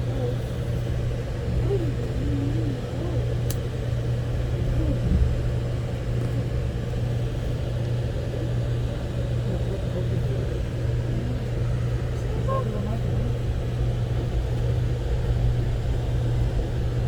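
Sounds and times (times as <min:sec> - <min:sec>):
faint voices murmuring: 0:00.0 - 0:15.4
train hum and rumble on board: 0:00.0 - 0:17.0.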